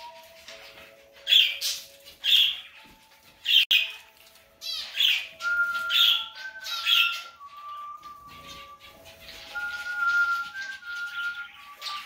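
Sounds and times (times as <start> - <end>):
whistled tune: 0.0 - 2.8, 4.9 - 12.0
cockatiels chirping: 0.0 - 12.0.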